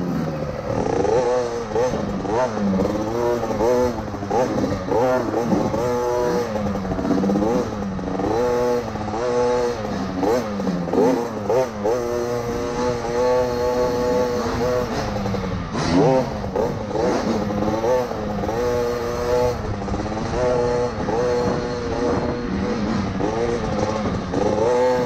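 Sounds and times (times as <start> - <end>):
two-stroke engine revving: 0.0 - 25.0.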